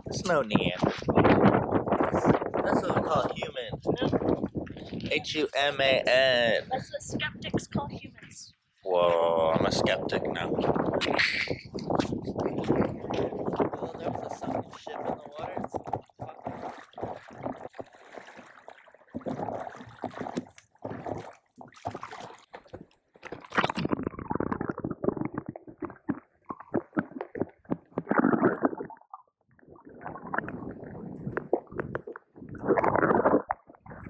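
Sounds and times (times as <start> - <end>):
water sloshing and gurgling: 0.0 - 34.0.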